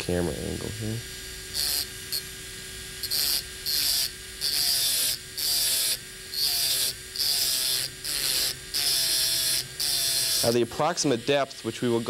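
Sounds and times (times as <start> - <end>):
dental drill motor whining: 0.0 - 12.0.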